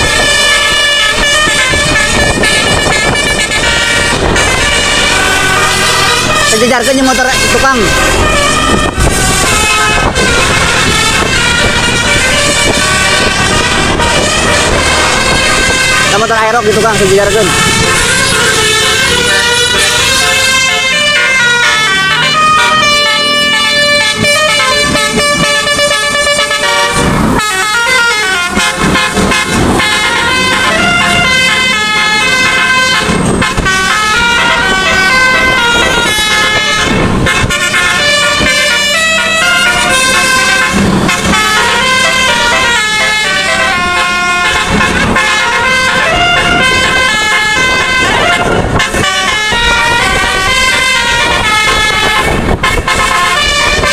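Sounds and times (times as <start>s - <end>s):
bus musical air horn playing a tune: 0.0s - 53.9s.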